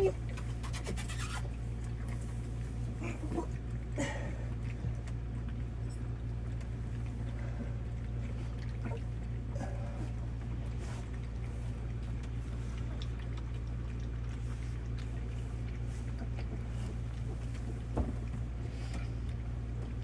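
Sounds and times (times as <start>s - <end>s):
puppies lapping milk: 0.0s - 20.0s
steady low hum: 1.5s - 20.0s.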